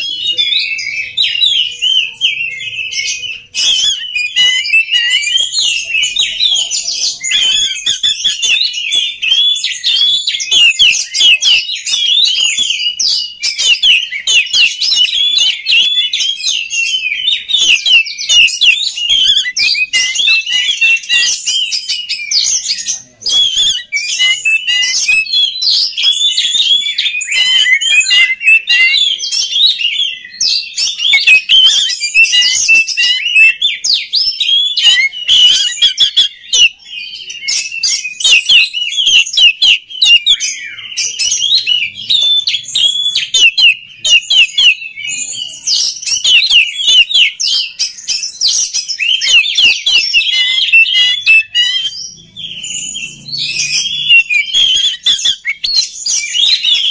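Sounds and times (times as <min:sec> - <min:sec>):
bird singing whistled song: 0:00.0 - 0:56.9.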